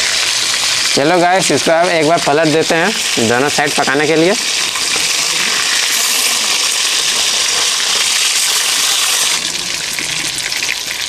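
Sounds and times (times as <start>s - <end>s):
fish sizzling in hot oil: 0.0s - 11.0s
spatula turning fish: 1.6s - 11.0s.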